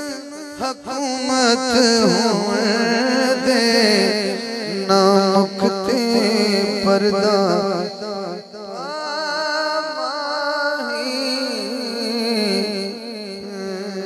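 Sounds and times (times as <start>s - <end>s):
man singing through microphone: 0.0s - 14.0s.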